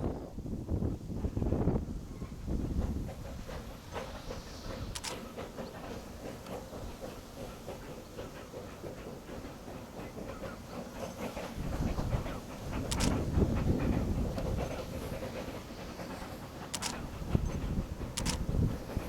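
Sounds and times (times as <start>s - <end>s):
low train rumble: 0.0s - 19.0s
train wheels clattering over rail joints: 1.0s - 19.0s.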